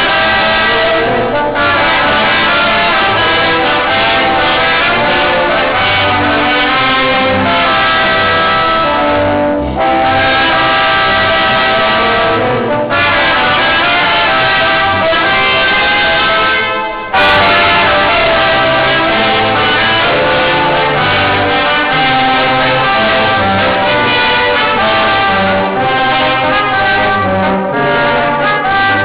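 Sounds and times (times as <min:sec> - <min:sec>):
brass quintet playing: 0:00.0 - 0:29.0.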